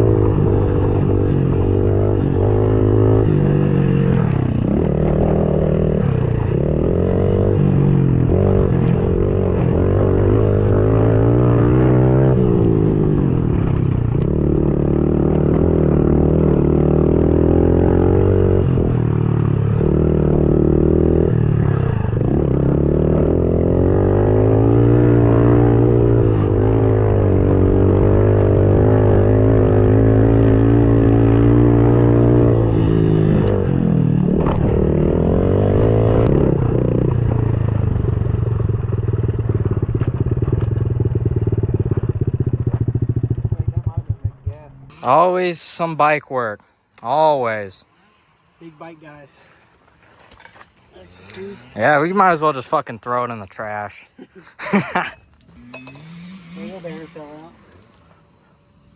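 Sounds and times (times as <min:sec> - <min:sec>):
pit bike engine revving: 0:00.0 - 0:49.4, 0:51.1 - 0:58.9.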